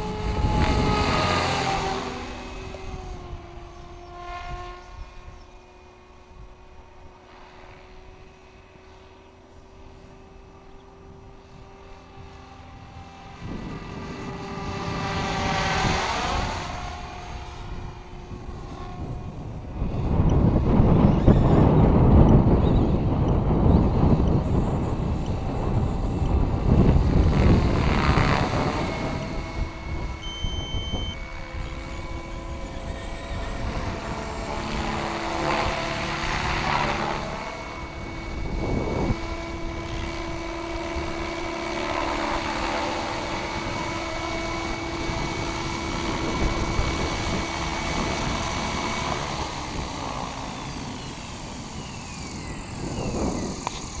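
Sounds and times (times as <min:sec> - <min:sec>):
rc helicopter motor whine: 0:00.0 - 0:54.0.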